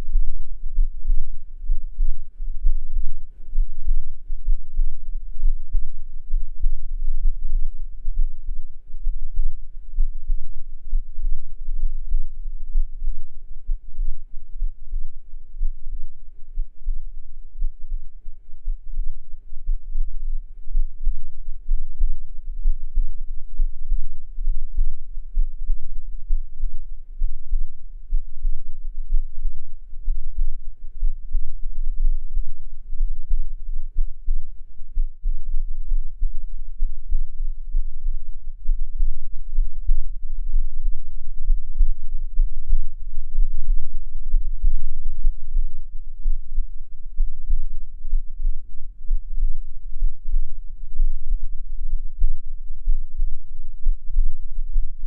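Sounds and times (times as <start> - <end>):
heartbeat: 0.0 - 55.0
low rumble: 0.0 - 55.0.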